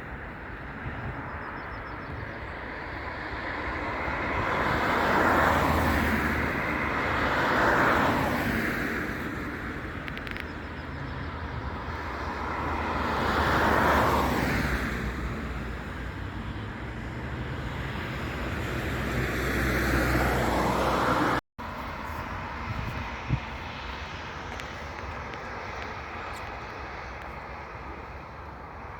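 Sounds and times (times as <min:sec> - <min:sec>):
jet airliner engines: 0:00.0 - 0:28.9.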